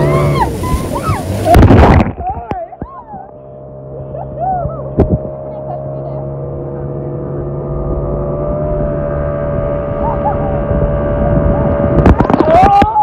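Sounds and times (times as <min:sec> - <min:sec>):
outboard motor droning: 0:00.0 - 0:13.0
water rushing past: 0:00.0 - 0:13.0.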